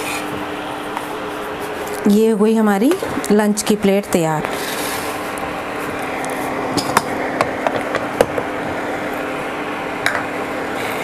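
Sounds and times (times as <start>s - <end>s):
steady low hum and hiss: 0.0s - 11.0s.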